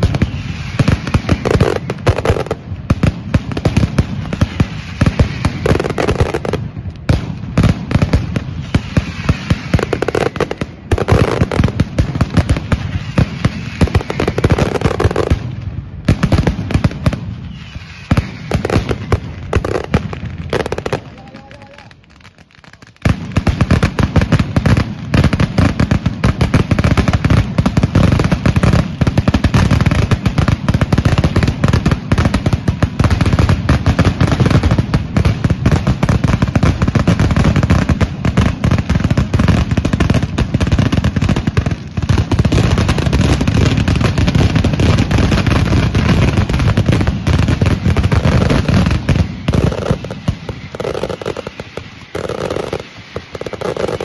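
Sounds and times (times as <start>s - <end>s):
firecracker barrage: 0.0s - 54.0s.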